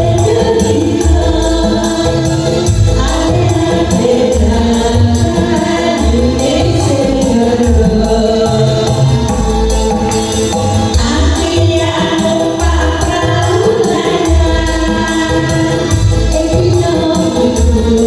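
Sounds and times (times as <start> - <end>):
jingling tambourine-like percussion: 0.0 - 18.0
voices singing together: 0.0 - 18.0.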